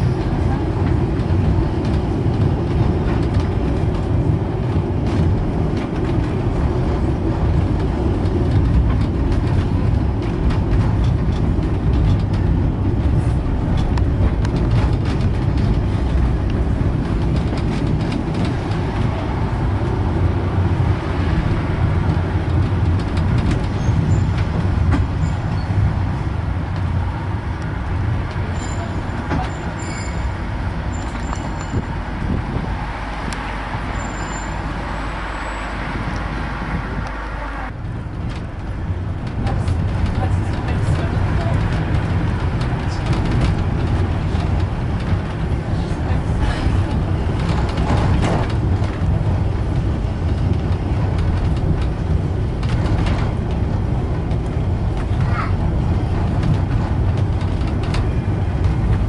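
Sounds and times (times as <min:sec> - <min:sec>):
tram wheels rumbling on rail: 0:00.0 - 0:59.0.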